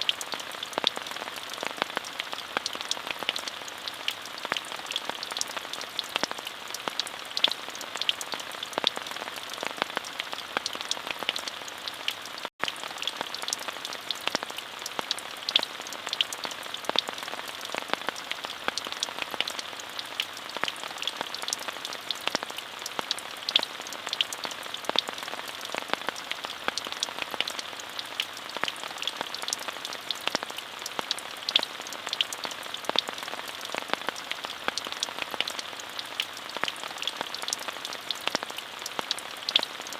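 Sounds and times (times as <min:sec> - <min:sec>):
steady rain with drop ticks: 0:00.0 - 0:39.9.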